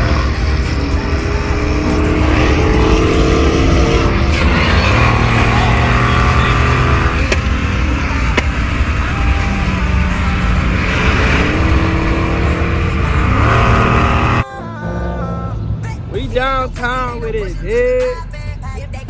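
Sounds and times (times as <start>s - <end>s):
muscle car engines revving: 0.0s - 19.0s.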